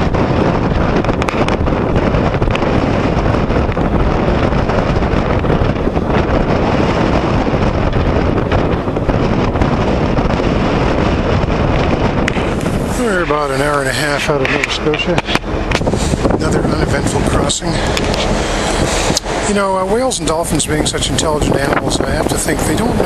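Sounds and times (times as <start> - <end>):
wind rushing across microphone: 0.0 - 23.0.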